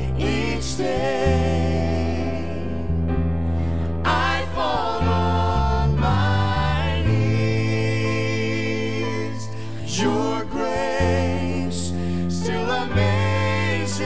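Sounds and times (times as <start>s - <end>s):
group of voices singing: 0.0s - 3.1s, 3.7s - 14.0s
keyboard: 0.0s - 14.0s.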